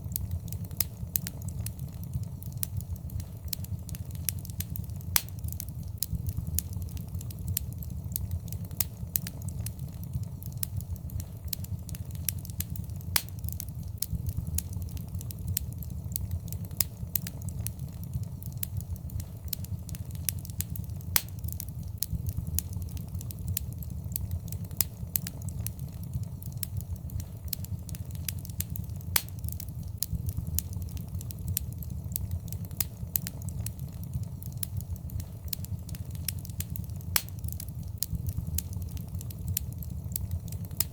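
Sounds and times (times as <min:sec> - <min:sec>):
burning wood popping: 0:00.0 - 0:40.9
wood fire crackling: 0:00.0 - 0:40.9.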